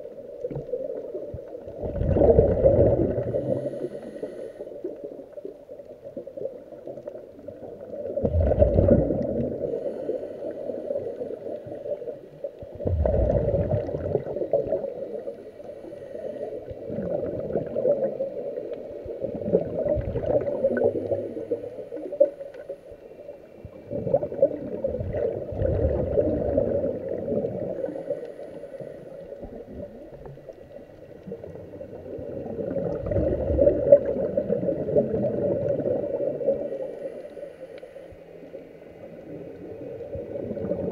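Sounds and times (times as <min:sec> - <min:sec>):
air bubbles gurgling underwater: 0:00.0 - 0:04.1, 0:04.8 - 0:15.5, 0:16.5 - 0:22.8, 0:23.6 - 0:36.9, 0:39.0 - 0:40.9.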